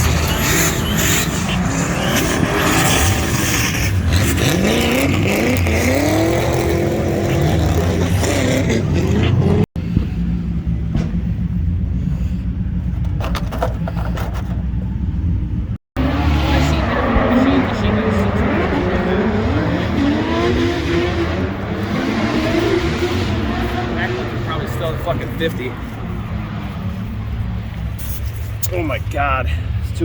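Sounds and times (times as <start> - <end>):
car engine revving: 0.0 - 11.8, 16.0 - 29.3.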